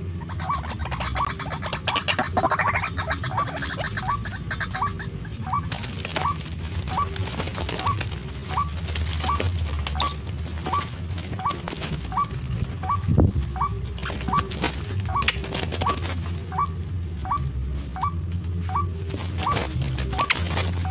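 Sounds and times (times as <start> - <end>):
bird flapping and thrashing: 2.8 - 20.9.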